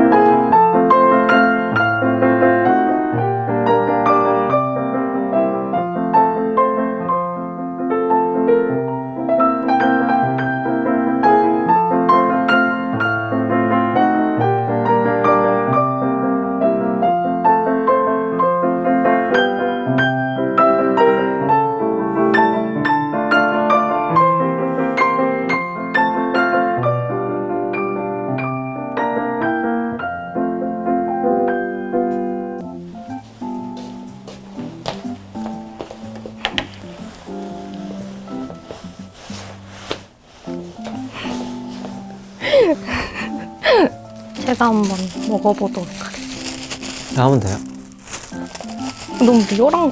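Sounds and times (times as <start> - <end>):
solo grand piano piece: 0.0 - 49.9.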